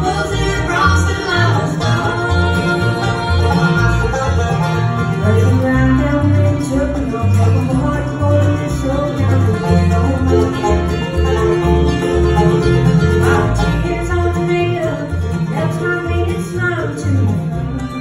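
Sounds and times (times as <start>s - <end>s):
acoustic guitar: 0.0s - 18.0s
banjo: 0.0s - 18.0s
fiddle: 0.0s - 18.0s
mandolin: 0.0s - 18.0s
upright bass plucking: 0.0s - 18.0s.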